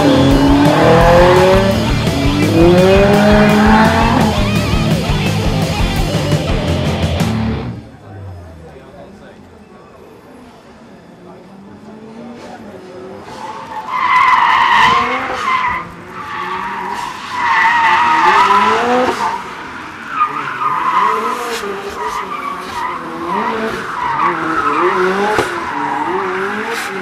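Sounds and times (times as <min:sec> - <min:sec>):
car engine revving: 0:00.0 - 0:08.2, 0:12.0 - 0:27.0.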